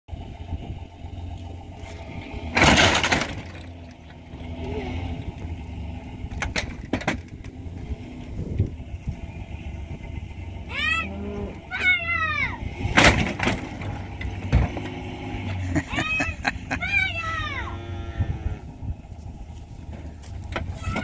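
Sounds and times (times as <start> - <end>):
truck engine idling: 0.1 - 21.0.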